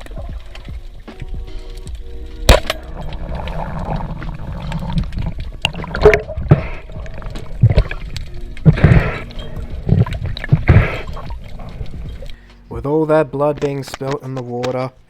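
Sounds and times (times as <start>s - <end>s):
water sloshing and splashing: 0.0s - 12.4s.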